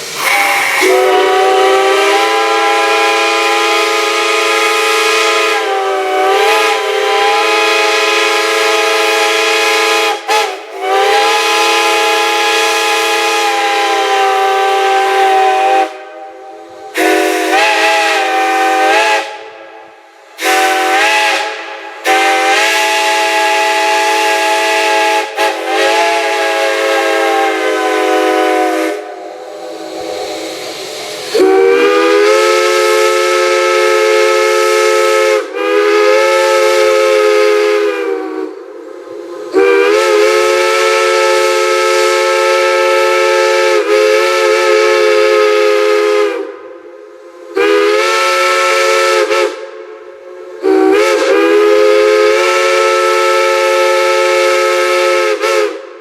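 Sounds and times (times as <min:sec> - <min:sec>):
multi-chime steam whistle blasts: 0:00.0 - 0:56.0.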